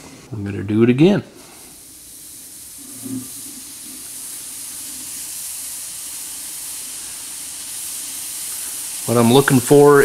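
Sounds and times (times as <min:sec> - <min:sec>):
welding torch flame hissing: 0:01.3 - 0:10.0.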